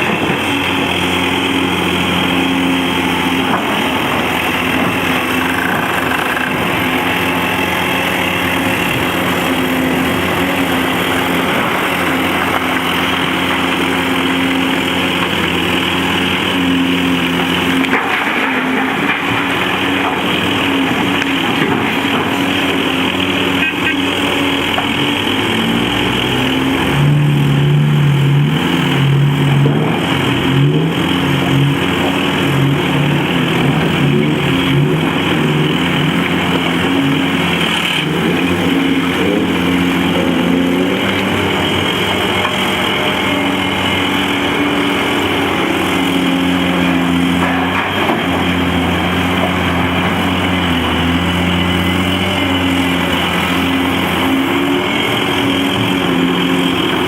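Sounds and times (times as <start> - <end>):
heavy diesel engines working: 0.0 - 57.0.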